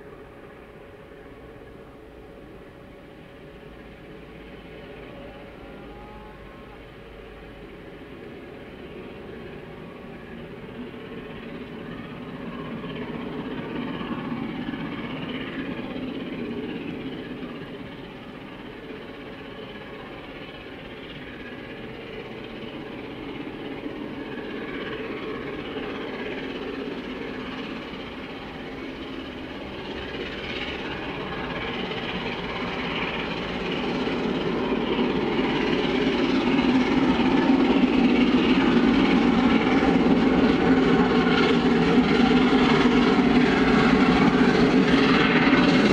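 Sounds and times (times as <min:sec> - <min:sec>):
distant steam locomotive exhaust: 0:00.0 - 0:45.9.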